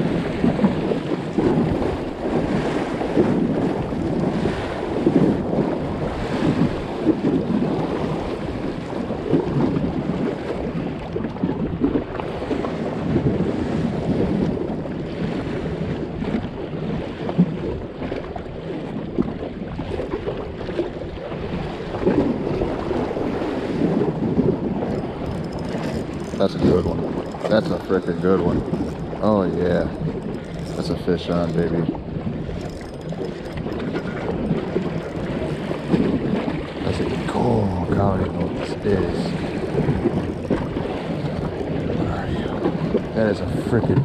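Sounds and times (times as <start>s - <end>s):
waves lapping against pier: 0.0s - 44.0s
wind buffeting microphone: 0.0s - 44.0s.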